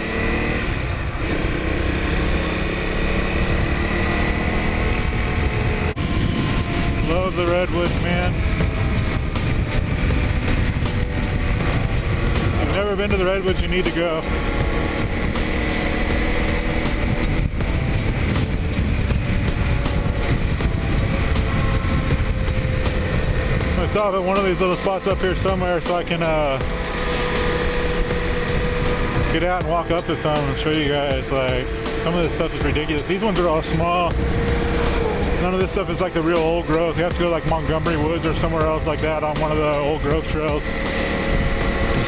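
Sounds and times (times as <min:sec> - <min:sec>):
motorcycle engine running: 0:00.0 - 0:42.0
road and wind noise: 0:00.0 - 0:42.0.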